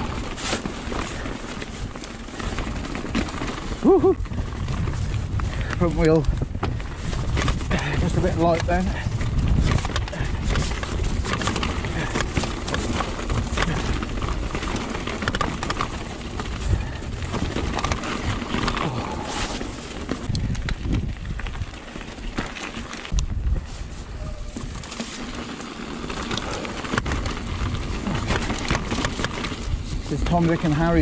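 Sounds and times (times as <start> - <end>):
wind rumble on microphone: 0.0 - 25.4, 26.1 - 31.0
bike rattling: 0.0 - 31.0
bike tyres rolling over loose rock: 0.0 - 31.0.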